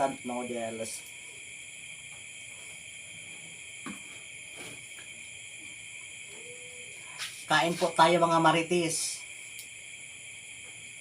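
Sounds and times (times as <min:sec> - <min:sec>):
crickets and insects chirping: 0:00.0 - 0:11.0.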